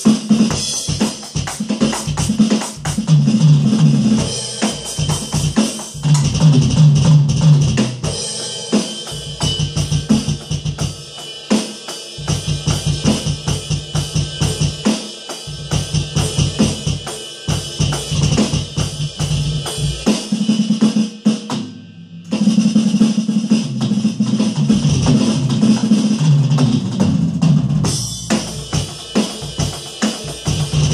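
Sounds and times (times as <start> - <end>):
electronic drum kit playing: 0.0 - 30.9
music with bass line: 0.0 - 30.9.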